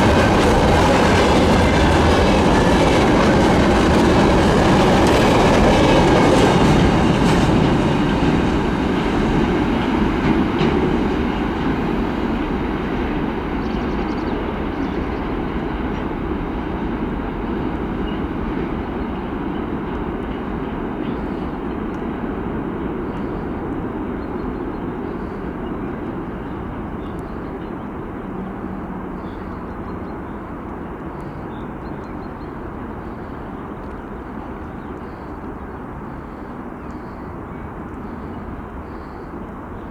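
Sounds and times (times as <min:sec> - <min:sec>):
train wagons rolling on rails: 0:00.0 - 0:39.7.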